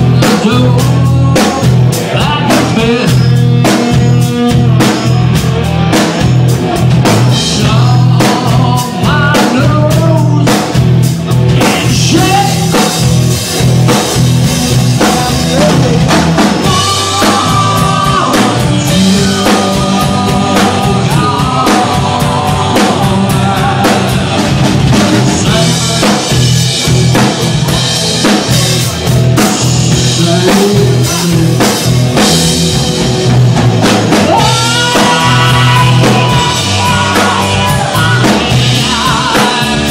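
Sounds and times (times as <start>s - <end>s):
drum kit: 0.0s - 39.9s
electric guitar: 0.0s - 39.9s
rock band playing live: 0.0s - 39.9s.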